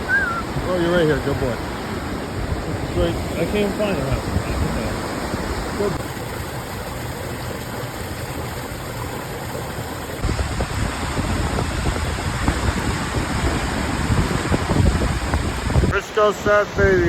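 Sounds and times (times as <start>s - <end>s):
stream rushing water: 0.0s - 17.0s.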